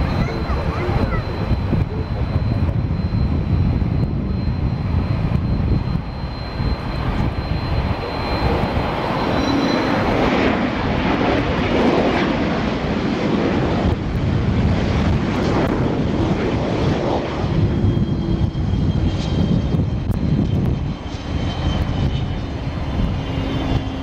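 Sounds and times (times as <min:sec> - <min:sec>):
aircraft engine low rumble: 0:00.0 - 0:24.0
broad rushing noise: 0:00.0 - 0:24.0
thin high engine whine: 0:00.0 - 0:24.0.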